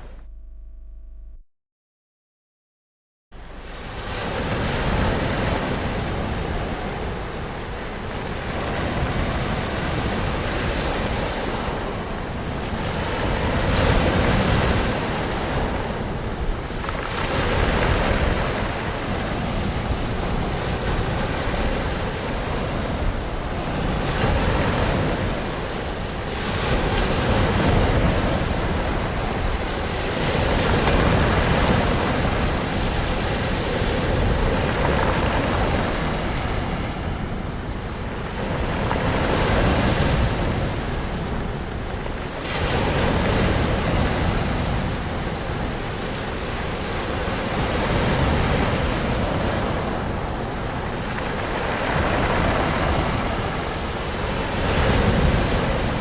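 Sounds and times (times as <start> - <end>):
ocean waves breaking: 3.4 - 56.0.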